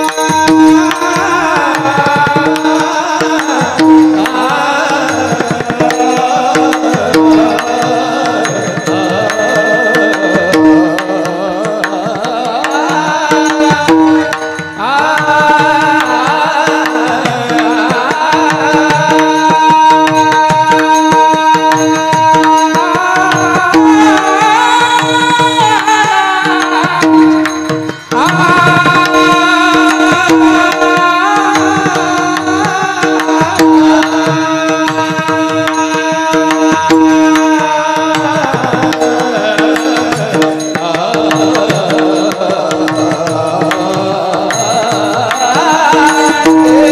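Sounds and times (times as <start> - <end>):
hand drum rhythm: 0.0 - 46.9
person singing devotional song: 0.0 - 46.9.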